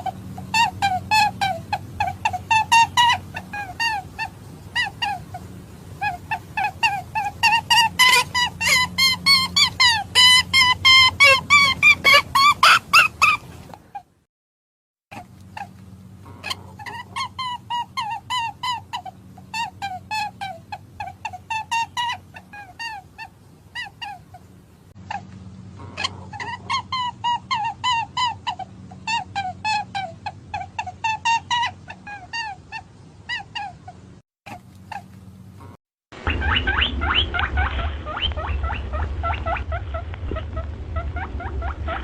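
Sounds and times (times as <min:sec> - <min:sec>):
rabbit squeaky calls: 0:00.0 - 0:14.1, 0:15.1 - 0:42.0.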